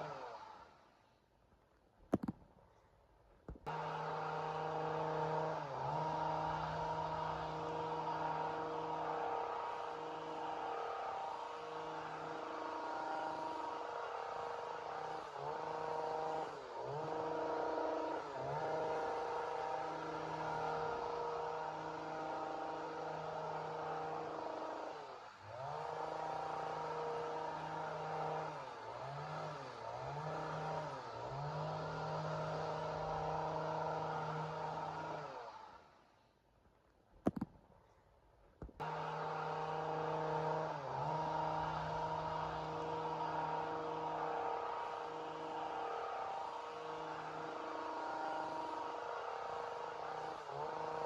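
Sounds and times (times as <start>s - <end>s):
chainsaw running at high revs: 0.0s - 1.0s, 3.7s - 36.0s, 38.8s - 51.0s.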